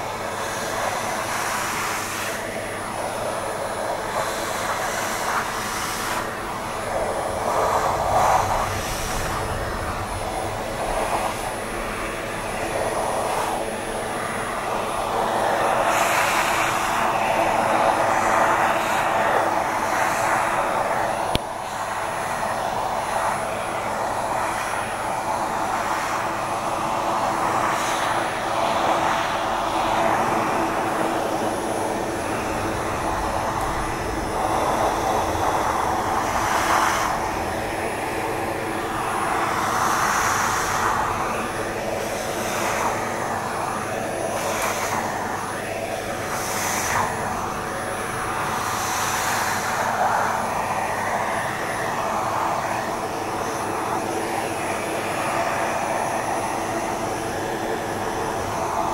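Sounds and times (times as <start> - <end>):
vacuum cleaner suction: 0.0 - 58.9.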